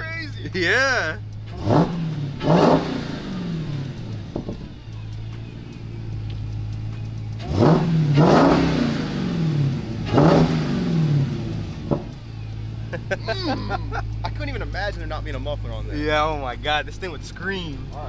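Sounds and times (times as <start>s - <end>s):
car engine idling and revving: 0.0s - 18.0s
supercharger whine: 0.0s - 18.0s.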